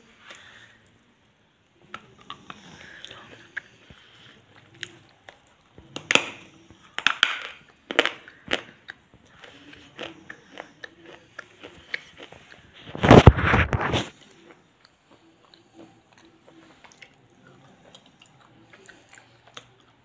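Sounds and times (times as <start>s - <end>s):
quiet chewing: 0.0s - 20.0s
crunching chocolate bar: 1.9s - 20.0s.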